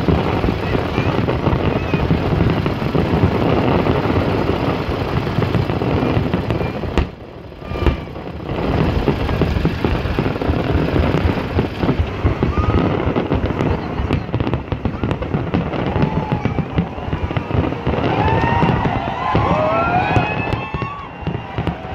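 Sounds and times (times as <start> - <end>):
fireworks crackling: 0.0 - 21.9
low rumble of bursts: 0.0 - 21.9.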